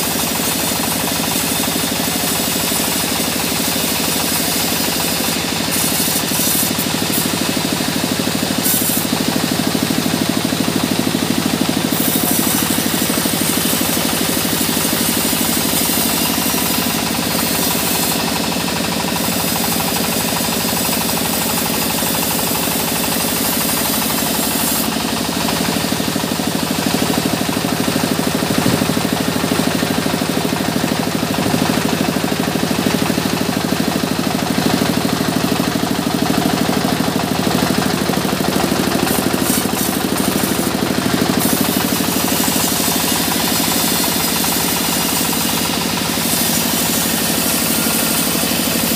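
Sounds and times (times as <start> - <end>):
band saw cutting log: 0.0 - 48.9.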